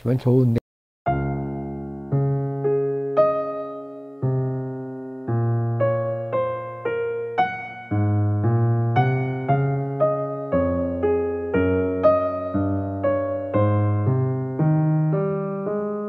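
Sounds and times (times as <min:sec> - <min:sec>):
slow solo piano music: 0:01.1 - 0:16.0.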